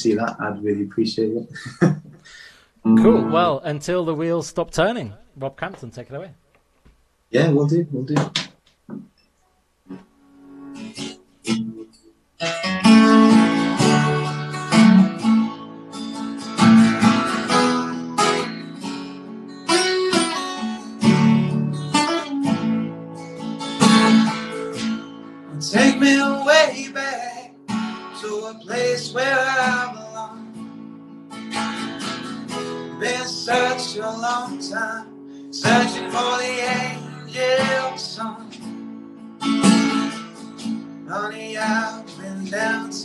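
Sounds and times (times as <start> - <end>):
acoustic guitar strumming: 2.8 - 4.4, 9.9 - 43.0.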